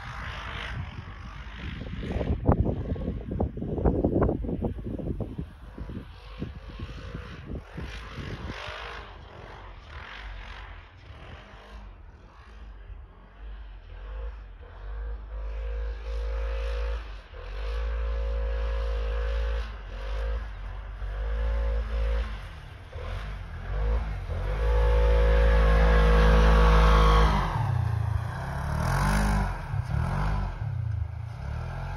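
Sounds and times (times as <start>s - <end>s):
vehicle engine revving: 0.0s - 31.9s.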